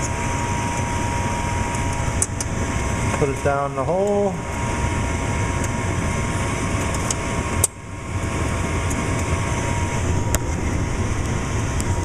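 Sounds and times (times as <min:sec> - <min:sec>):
furnace blower humming: 0:00.0 - 0:12.0.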